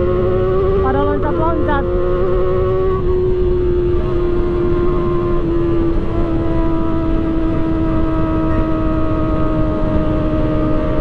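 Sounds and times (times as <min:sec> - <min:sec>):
motorcycle engine at high revs: 0:00.0 - 0:11.0
wind rumble: 0:00.0 - 0:11.0.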